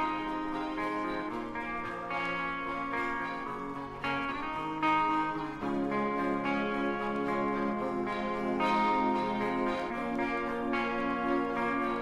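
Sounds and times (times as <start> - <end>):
guitar chords ringing: 0.0 - 12.0.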